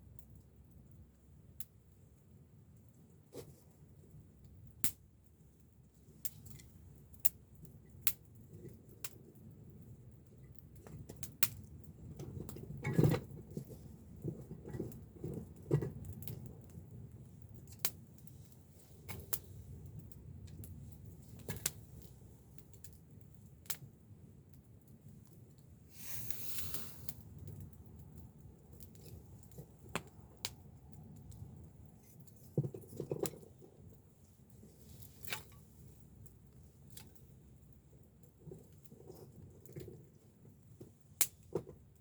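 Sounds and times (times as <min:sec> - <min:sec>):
campfire crackling and popping: 0:00.0 - 0:42.0.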